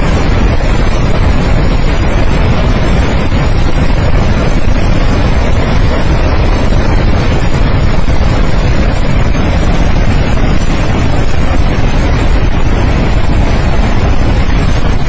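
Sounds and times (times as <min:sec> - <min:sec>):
river floodwater roaring: 0:00.0 - 0:15.0.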